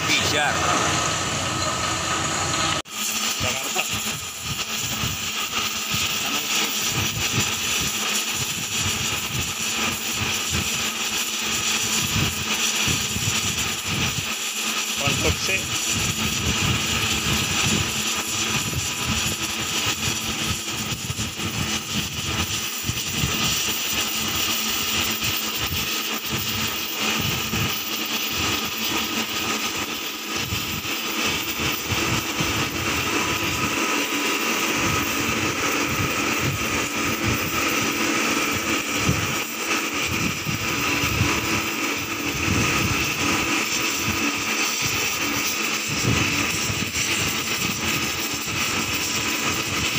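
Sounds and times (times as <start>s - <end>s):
torch flame hissing: 0.0s - 49.9s.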